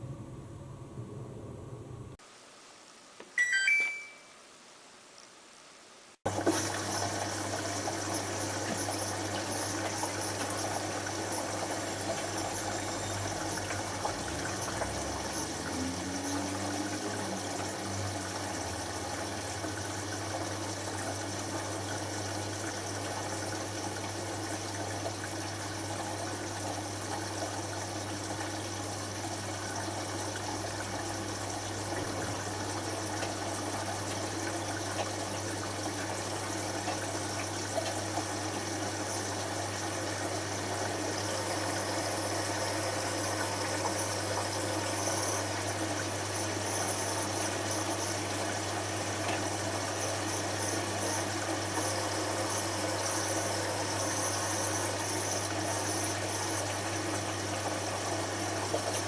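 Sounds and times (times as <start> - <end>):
washing machine water rushing: 6.2 - 59.0.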